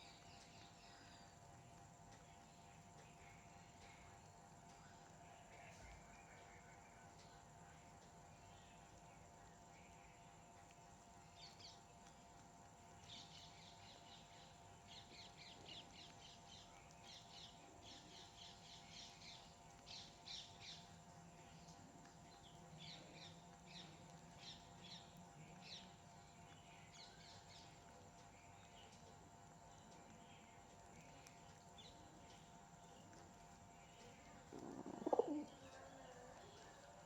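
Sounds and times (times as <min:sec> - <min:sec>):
faint steady hum: 0:00.0 - 0:37.0
small birds chirping: 0:00.0 - 0:37.0.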